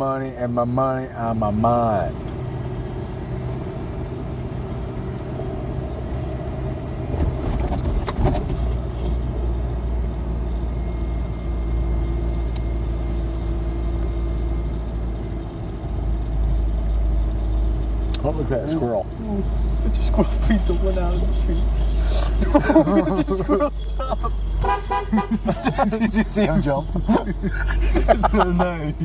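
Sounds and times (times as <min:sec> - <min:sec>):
pickup engine hum: 0:00.0 - 0:29.0
road rumble: 0:00.0 - 0:29.0.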